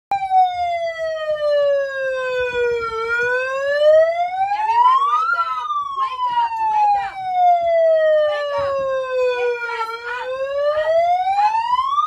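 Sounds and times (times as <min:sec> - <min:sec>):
electronic siren wailing: 0:00.1 - 0:12.0.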